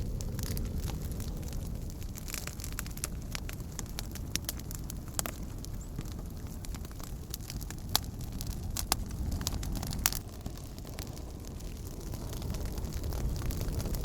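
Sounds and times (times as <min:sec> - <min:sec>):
campfire pops and snaps: 0:00.0 - 0:14.0
low rumble of flames: 0:00.0 - 0:14.0.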